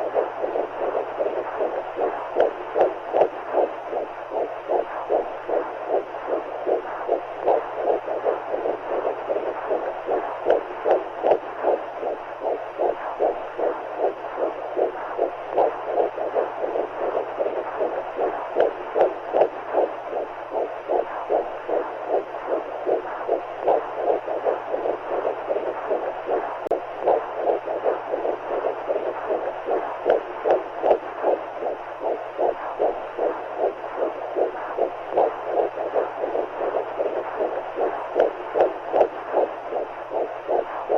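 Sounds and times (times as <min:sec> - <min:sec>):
heartbeat pulsing: 0:00.0 - 0:40.9.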